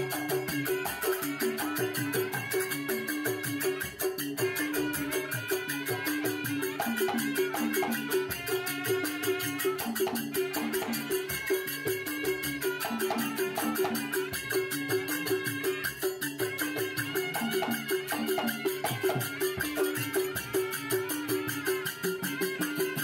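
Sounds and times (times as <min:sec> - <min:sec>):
music with fast percussive beat: 0:00.0 - 0:23.0.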